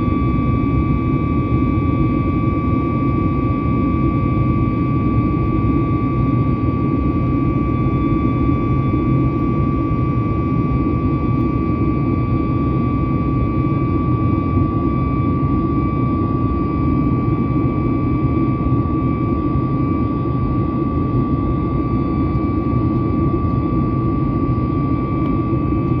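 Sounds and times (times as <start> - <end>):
steady high engine tone: 0.0 - 26.0.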